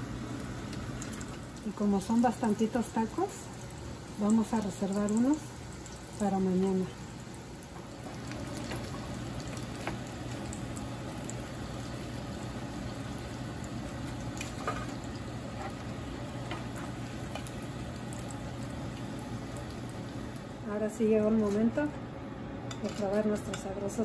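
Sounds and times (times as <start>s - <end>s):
food frying in oil: 0.0s - 21.9s.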